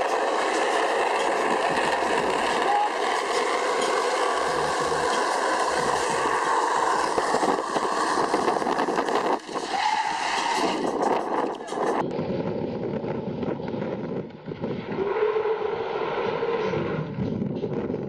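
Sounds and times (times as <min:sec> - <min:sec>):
tyre and wind noise: 0:00.0 - 0:18.0.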